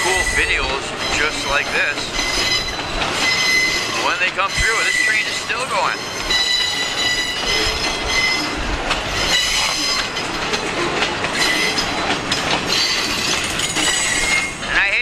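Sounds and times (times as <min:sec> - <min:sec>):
train wheels rumbling and clattering: 0:00.0 - 0:15.0
wheel squealing: 0:00.0 - 0:15.0.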